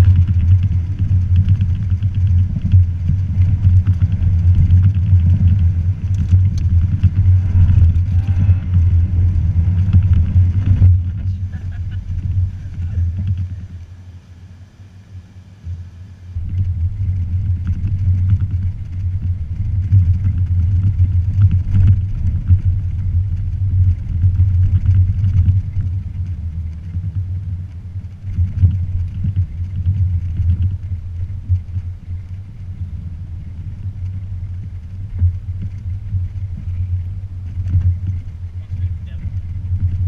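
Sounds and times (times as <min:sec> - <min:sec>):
pickup truck engine rumble: 0:00.0 - 0:40.0.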